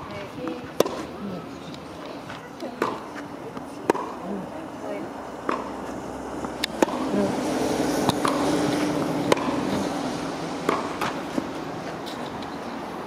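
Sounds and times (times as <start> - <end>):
tennis racket hitting ball: 0.0 - 1.2, 2.0 - 4.6, 5.4 - 12.5.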